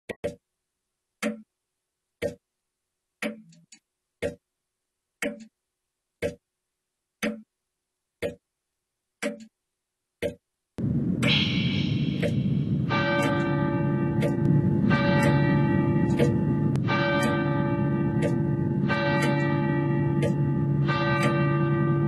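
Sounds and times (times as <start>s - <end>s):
clock ticking: 0.1s - 4.6s, 5.2s - 6.5s, 7.2s - 7.6s, 8.2s - 8.5s, 9.2s - 9.6s, 10.2s - 22.0s.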